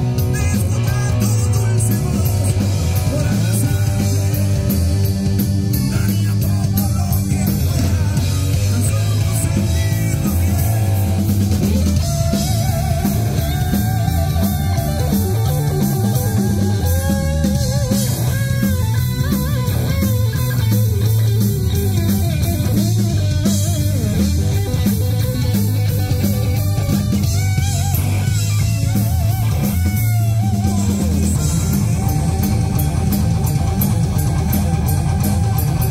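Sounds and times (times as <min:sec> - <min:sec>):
bending lead guitar notes: 0:00.0 - 0:35.9
live rock band playing: 0:00.0 - 0:35.9.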